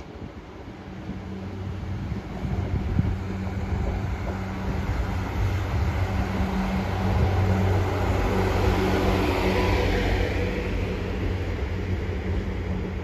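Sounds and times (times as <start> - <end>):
train hum: 0.0 - 13.0
train wheels rumbling on rails: 0.0 - 13.0.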